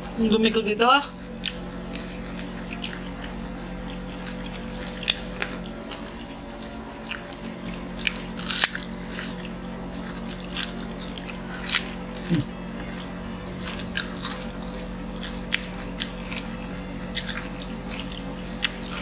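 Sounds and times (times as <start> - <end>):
chewing crispy chicken: 1.2 - 19.0.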